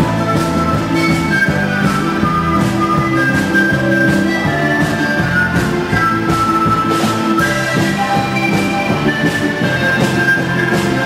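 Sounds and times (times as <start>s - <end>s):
electric bass: 0.0s - 11.0s
flute melody: 0.0s - 11.0s
steady drum beat: 0.0s - 11.0s
strummed guitar: 0.0s - 11.0s.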